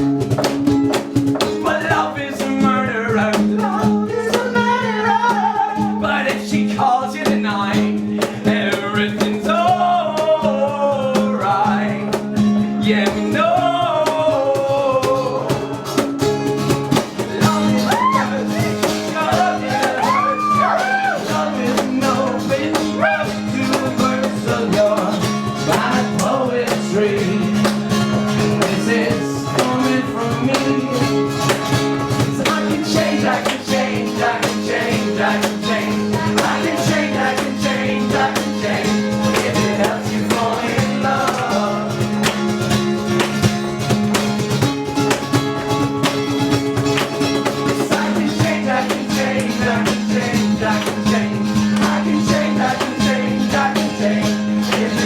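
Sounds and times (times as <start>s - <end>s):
live band playing instrumental: 0.0s - 6.4s, 12.0s - 55.0s.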